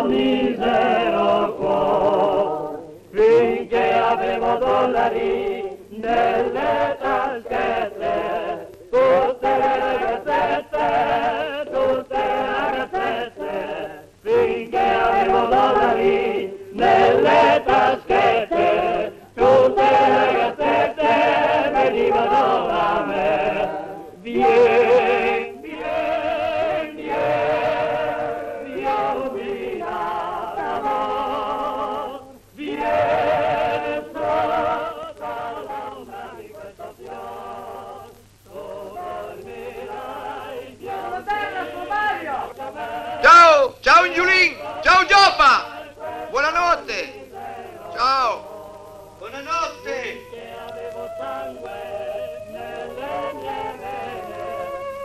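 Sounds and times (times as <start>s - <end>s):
men singing in chorus: 0.0s - 43.6s, 44.5s - 55.0s.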